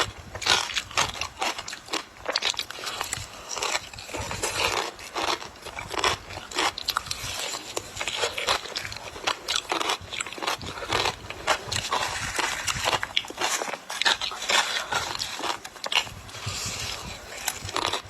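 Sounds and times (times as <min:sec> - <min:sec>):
person crunching ice: 0:00.0 - 0:18.0.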